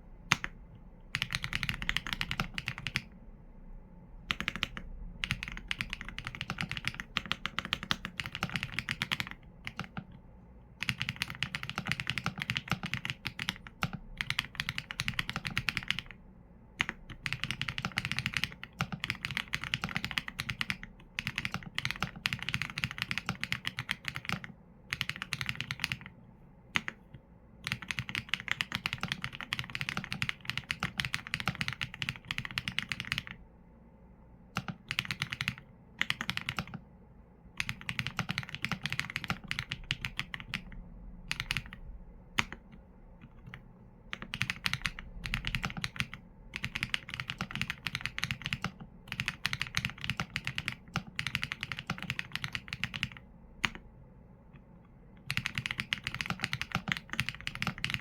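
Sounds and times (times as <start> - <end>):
mechanical keyboard typing: 0.3 - 3.1, 4.3 - 10.2, 10.8 - 16.2, 16.8 - 33.4, 34.5 - 36.8, 37.6 - 53.8, 55.2 - 58.0.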